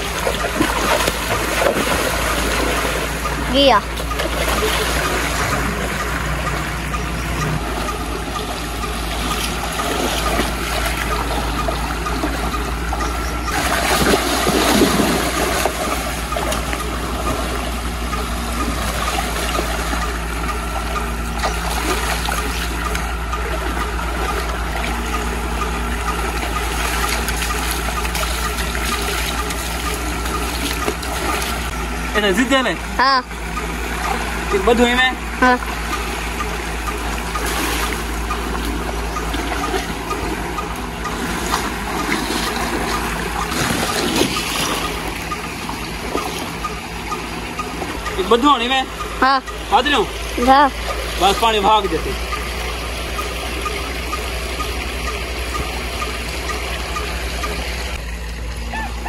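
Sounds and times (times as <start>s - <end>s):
low hum: 0.0s - 59.0s
water rushing from a pipe: 0.0s - 59.0s
water splashing: 0.0s - 59.0s.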